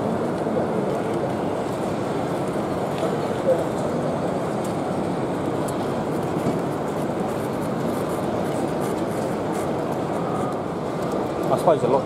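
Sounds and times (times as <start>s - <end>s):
crowd murmur: 0.0s - 12.0s.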